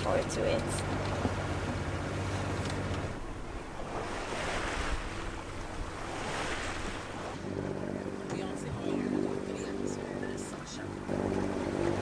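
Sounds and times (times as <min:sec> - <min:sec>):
water splashing along boat hull: 0:00.0 - 0:12.0.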